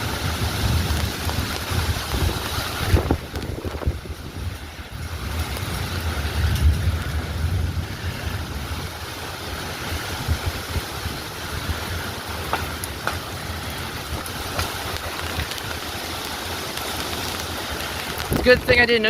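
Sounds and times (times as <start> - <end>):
wind buffeting microphone: 0.0 - 19.0
wind gusting: 0.0 - 19.0.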